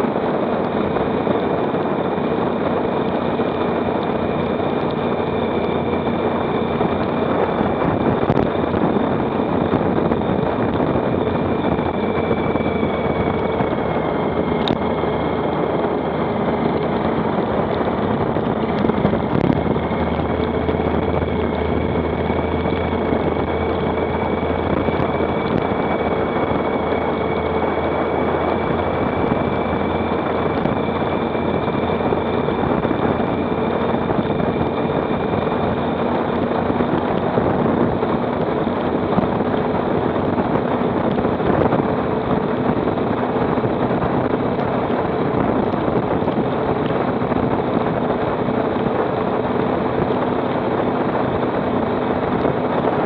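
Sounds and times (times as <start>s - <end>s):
motorcycle engine running: 0.0s - 53.0s
rushing wind: 0.0s - 53.0s.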